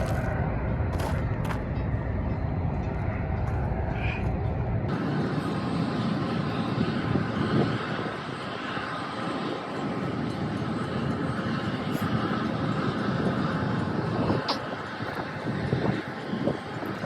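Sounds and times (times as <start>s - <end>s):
diesel engines droning: 0.0s - 17.0s.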